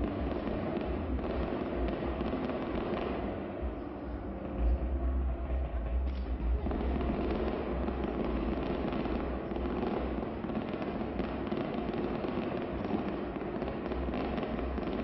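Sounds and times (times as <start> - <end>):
fireworks crackling: 0.0 - 5.0, 5.6 - 15.0.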